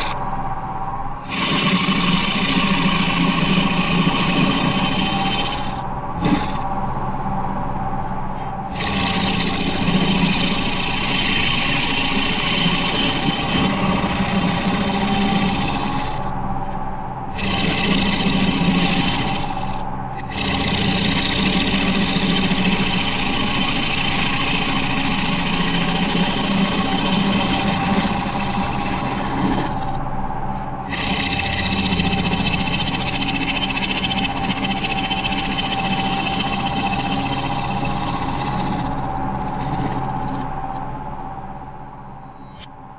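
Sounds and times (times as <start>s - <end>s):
turning tool shaving wood: 0.0s - 0.2s, 1.2s - 6.7s, 8.7s - 16.4s, 17.3s - 30.0s, 30.8s - 40.6s
lathe motor hum: 0.0s - 41.7s.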